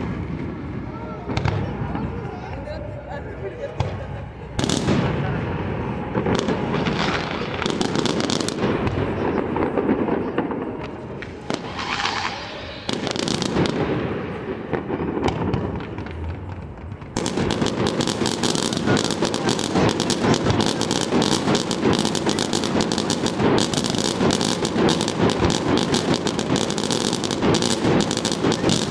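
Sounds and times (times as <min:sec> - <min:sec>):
fireworks booms: 0:00.0 - 0:28.9
fireworks crackling bangs: 0:00.0 - 0:28.9.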